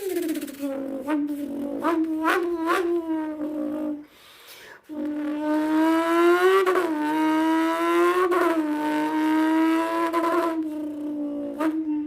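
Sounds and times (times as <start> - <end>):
person imitating car engine: 0.0 - 4.1, 4.9 - 12.0.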